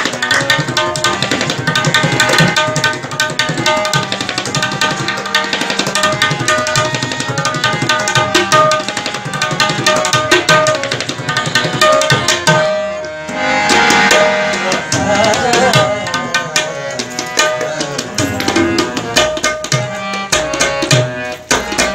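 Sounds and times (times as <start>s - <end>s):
harmonium chords: 0.0s - 21.9s
tabla drumming: 0.0s - 21.9s.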